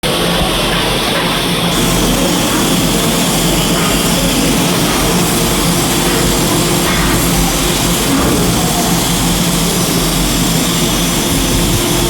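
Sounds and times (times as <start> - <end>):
welding arc crackling and hissing: 0.1 - 12.0.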